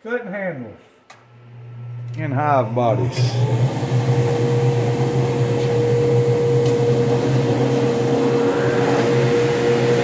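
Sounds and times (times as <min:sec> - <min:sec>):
electric saw running: 0:01.5 - 0:10.0.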